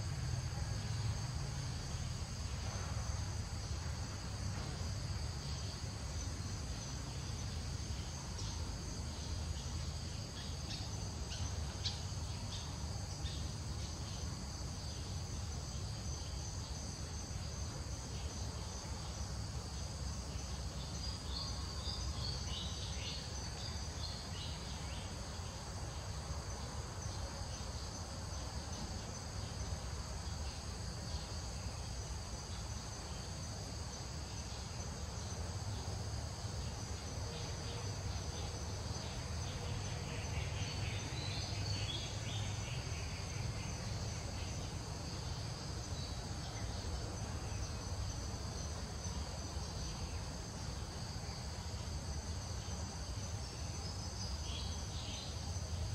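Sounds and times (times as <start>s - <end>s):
insect chorus buzzing: 0.0s - 55.9s.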